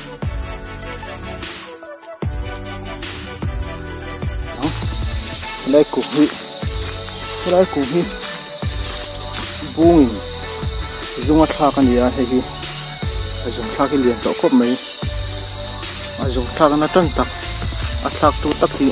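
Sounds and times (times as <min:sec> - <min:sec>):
high-pitched insect drone: 0:00.0 - 0:18.9.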